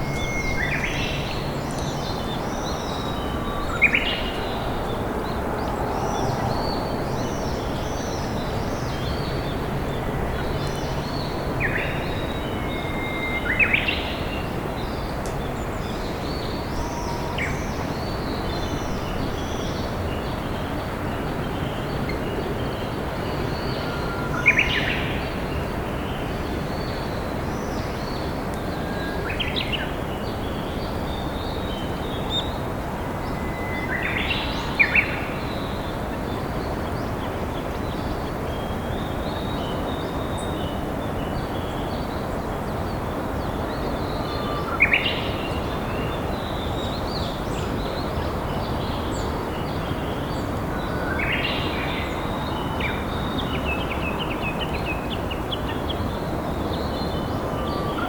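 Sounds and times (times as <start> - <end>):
warbler whistling song: 0.0 - 20.6, 21.5 - 58.0.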